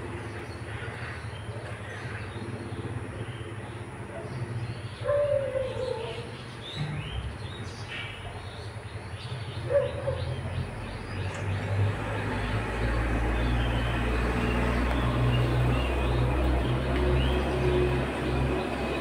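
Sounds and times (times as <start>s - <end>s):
birds chirping: 0.0s - 19.0s
low engine rumble: 0.0s - 19.0s.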